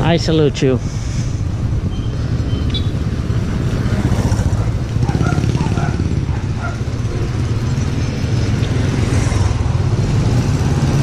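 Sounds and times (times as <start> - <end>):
motorcycle engine running: 1.4 - 11.0.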